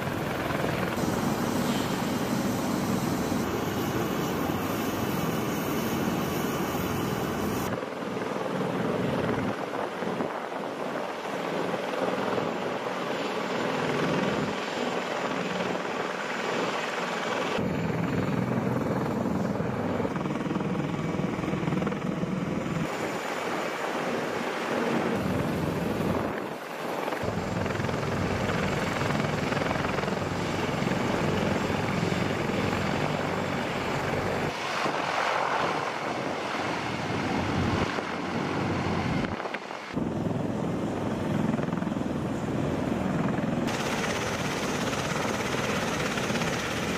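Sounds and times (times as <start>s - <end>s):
helicopter engines and rotors: 0.0s - 46.9s.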